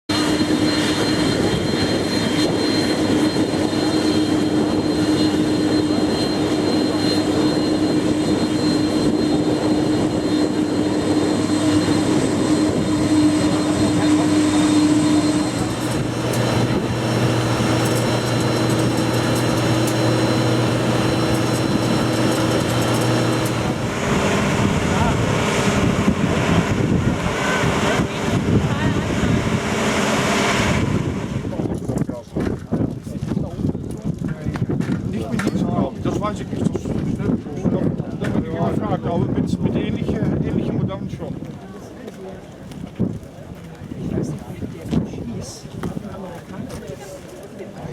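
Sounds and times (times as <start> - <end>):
aircraft engines running: 0.1 - 47.9.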